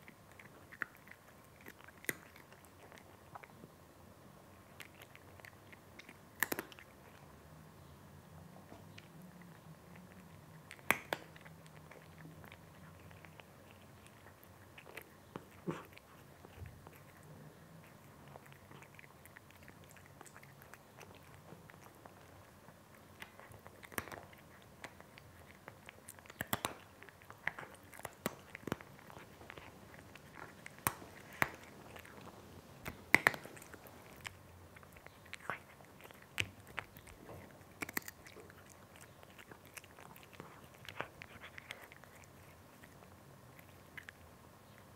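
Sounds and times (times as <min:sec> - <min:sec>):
cat crunching dry kibble: 0:00.0 - 0:03.4, 0:04.6 - 0:07.2, 0:09.0 - 0:44.2.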